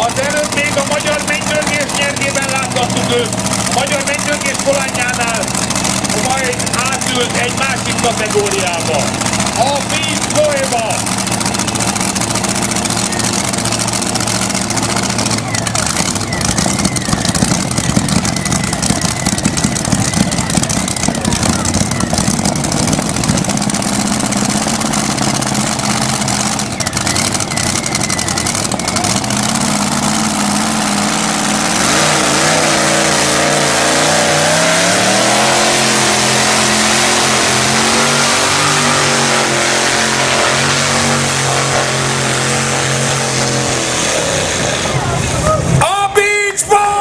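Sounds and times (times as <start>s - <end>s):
supercharged engine revving: 0.0s - 45.8s.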